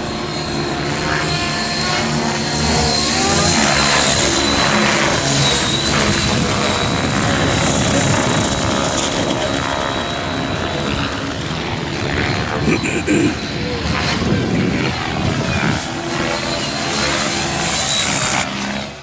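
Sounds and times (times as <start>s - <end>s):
helicopter rotor noise: 0.0s - 19.0s
high motor whine: 0.0s - 19.0s.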